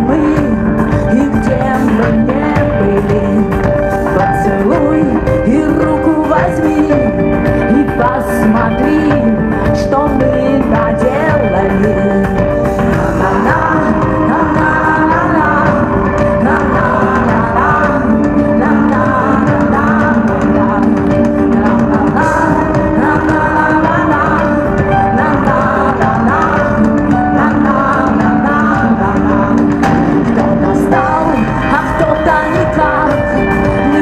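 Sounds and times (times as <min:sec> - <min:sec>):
live rock band playing: 0:00.0 - 0:34.0
woman singing lead vocal: 0:00.0 - 0:34.0.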